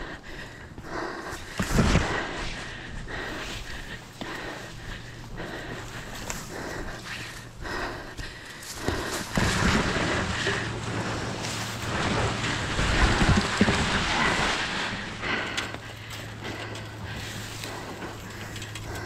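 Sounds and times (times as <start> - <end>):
grass rustling against microphone: 1.2 - 19.0.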